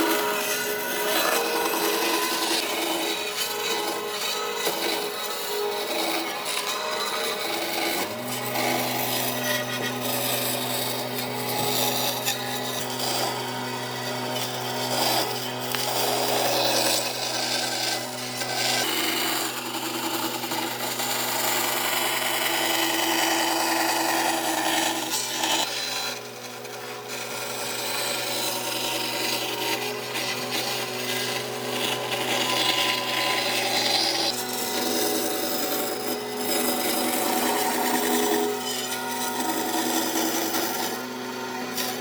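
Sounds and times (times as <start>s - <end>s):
power tool sanding wood: 0.0s - 42.0s.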